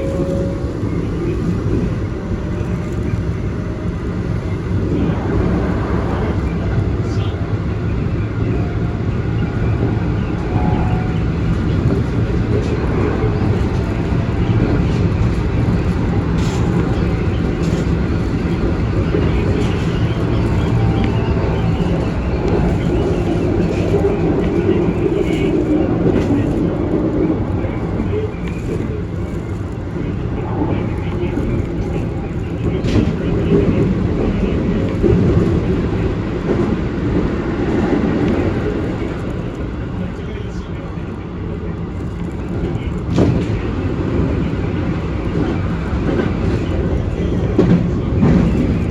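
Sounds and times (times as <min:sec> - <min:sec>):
electric train rumble inside car: 0:00.0 - 0:48.9.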